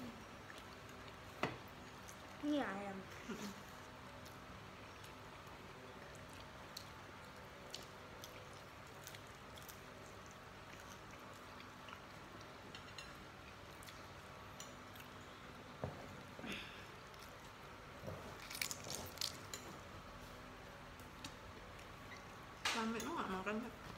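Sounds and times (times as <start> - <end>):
faint chewing: 0.1 - 15.4, 16.2 - 22.6.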